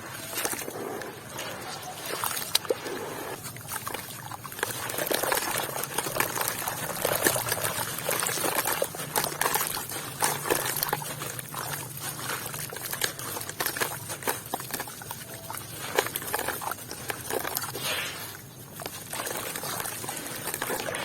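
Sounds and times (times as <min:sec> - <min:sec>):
wet sand trickling into water: 0:00.0 - 0:21.0.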